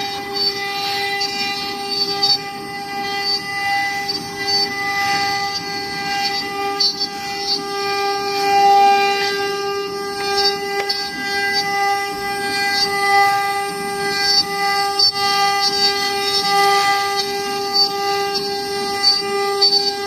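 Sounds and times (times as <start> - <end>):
bit cutting wood: 0.0 - 20.0
router spindle whining: 0.0 - 20.0.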